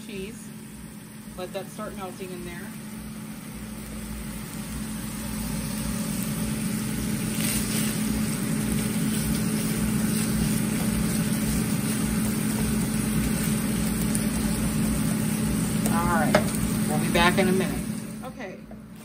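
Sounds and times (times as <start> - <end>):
sausage sizzling in a skillet: 0.0 - 19.0
steady low hum: 0.0 - 19.0.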